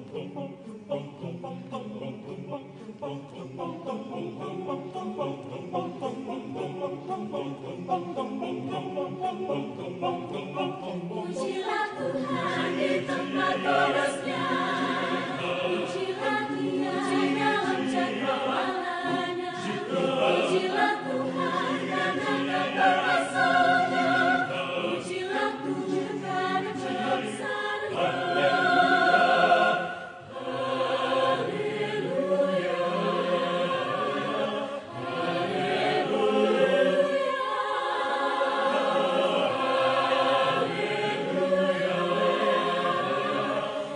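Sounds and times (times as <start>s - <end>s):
mixed choir singing in parts: 0.0s - 43.9s.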